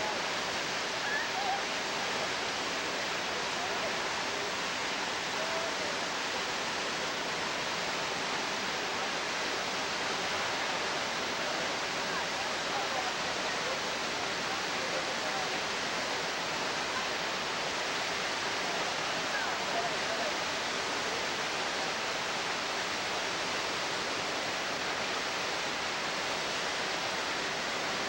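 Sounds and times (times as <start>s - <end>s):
waterfall pouring and splashing: 0.0s - 28.0s.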